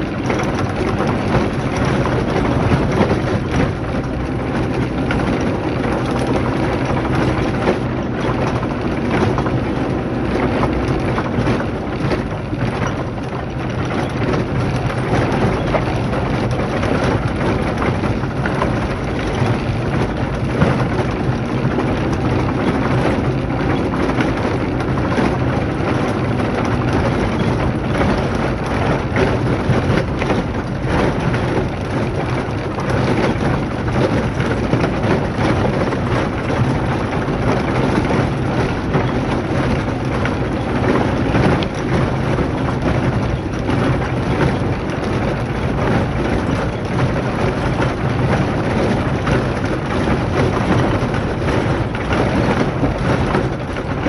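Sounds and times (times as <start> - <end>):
car engine low hum: 0.0 - 54.0.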